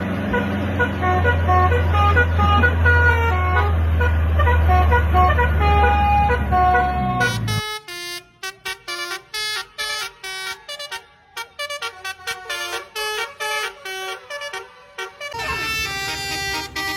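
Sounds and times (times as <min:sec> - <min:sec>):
truck engine running: 0:00.0 - 0:16.9
musical horn playing a tune: 0:00.3 - 0:16.9.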